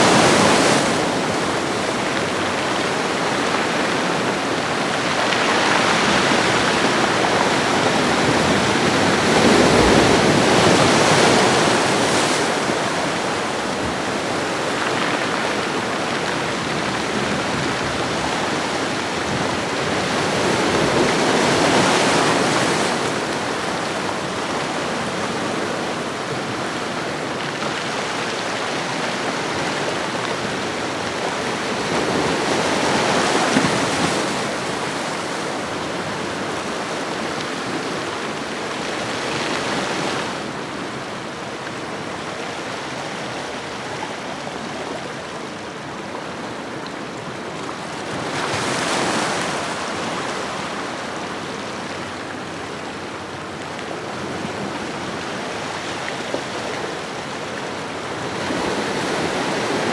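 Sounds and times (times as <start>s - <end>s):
ocean waves washing on shore: 0.0s - 59.9s.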